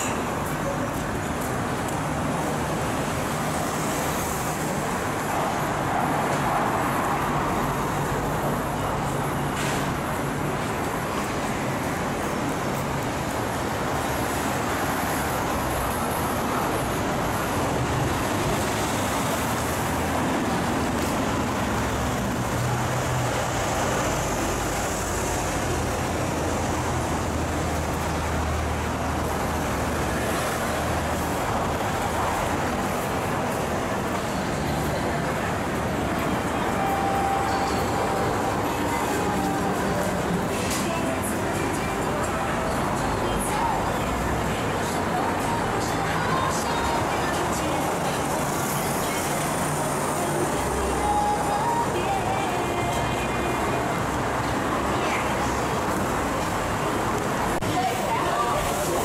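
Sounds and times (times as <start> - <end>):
traffic hum: 0.0 - 59.0.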